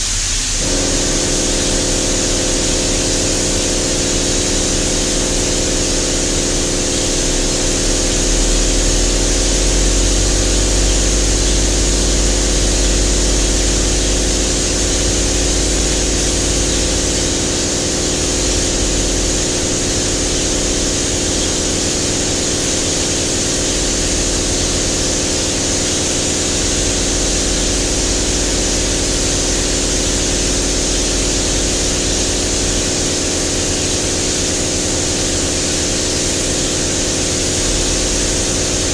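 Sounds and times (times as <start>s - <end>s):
spray paint air hiss: 0.0s - 38.9s
low machine hum: 0.6s - 33.5s, 36.4s - 38.9s.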